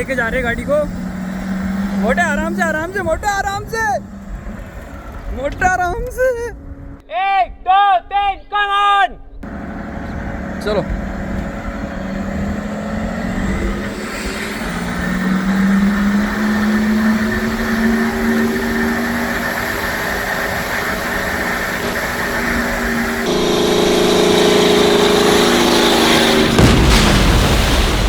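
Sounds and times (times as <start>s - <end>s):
diesel engine accelerating: 0.0s - 7.0s, 9.4s - 28.0s.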